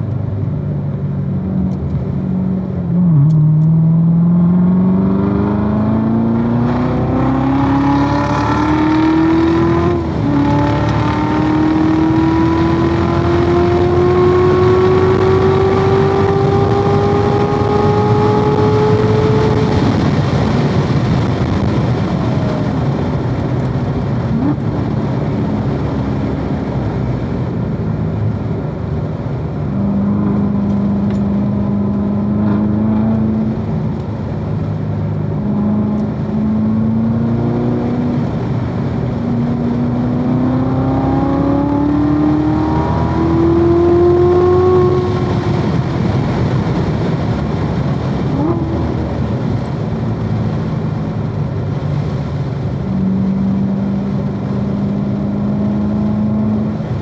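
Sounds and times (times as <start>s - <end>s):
car engine accelerating: 0.0s - 57.0s
wind and tyre noise: 0.0s - 57.0s.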